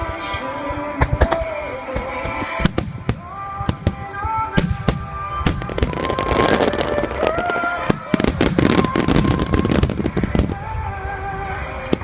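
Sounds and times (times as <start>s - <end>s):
fireworks bursting: 0.6s - 12.0s.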